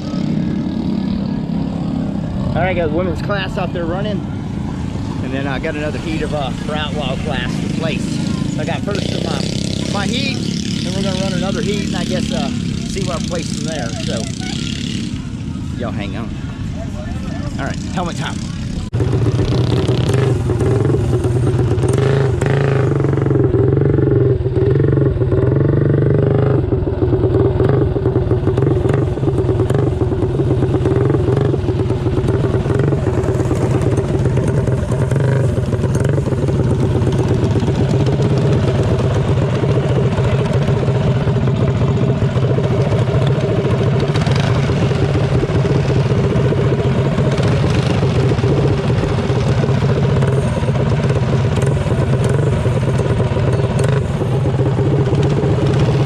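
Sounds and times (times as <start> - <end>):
mini bike engine revving: 0.0 - 4.0, 4.8 - 16.2, 17.6 - 56.0.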